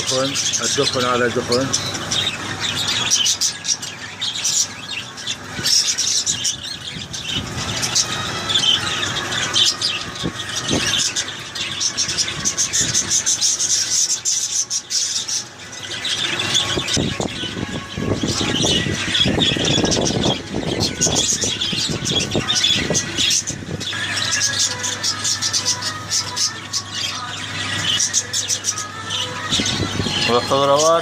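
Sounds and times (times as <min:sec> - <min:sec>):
parrots chattering and squawking: 0:00.0 - 0:31.0.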